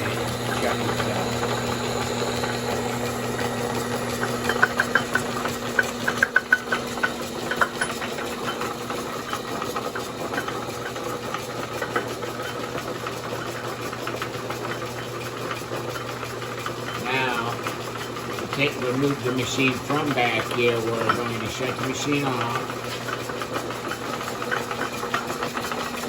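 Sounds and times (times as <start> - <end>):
lathe motor hum and gear whir: 0.0 - 26.0.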